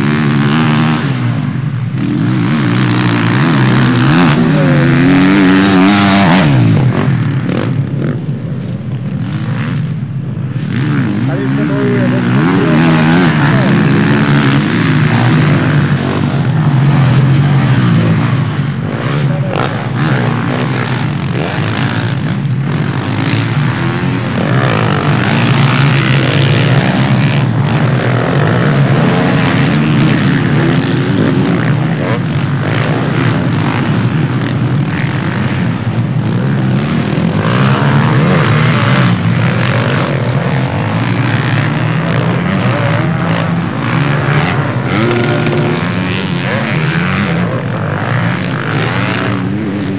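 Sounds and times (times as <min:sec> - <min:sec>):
motocross engines revving: 0:00.0 - 0:49.9.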